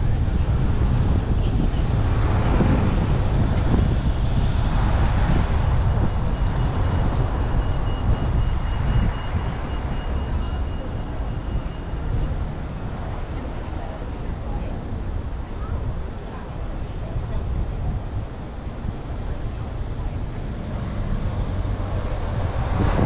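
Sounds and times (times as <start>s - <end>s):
car driving on road: 0.0s - 23.0s.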